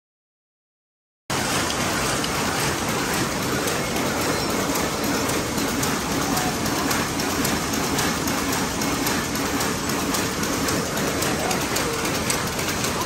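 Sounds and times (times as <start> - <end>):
weaving looms clattering: 1.3 - 13.0.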